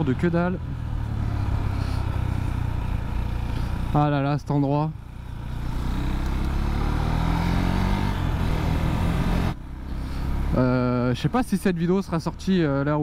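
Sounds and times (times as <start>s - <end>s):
motorcycle engine: 0.0s - 11.4s.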